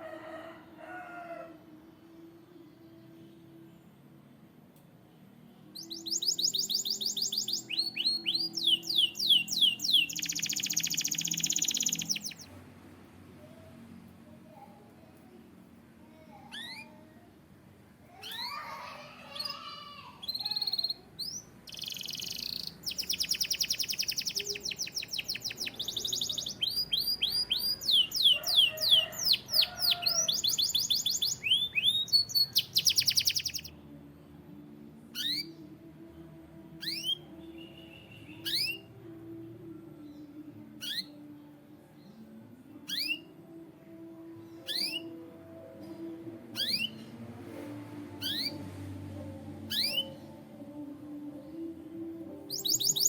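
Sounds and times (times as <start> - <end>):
canary singing: 5.6 - 12.8, 16.1 - 17.3, 18.1 - 33.9, 34.5 - 53.0.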